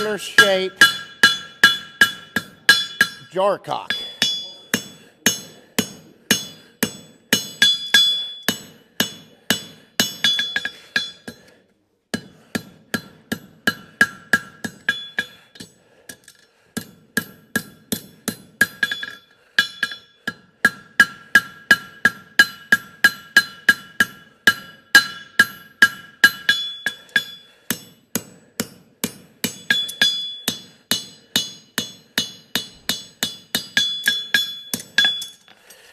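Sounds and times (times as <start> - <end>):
hammer ringing on anvil: 0.0 - 11.4, 12.1 - 15.8, 16.8 - 35.6.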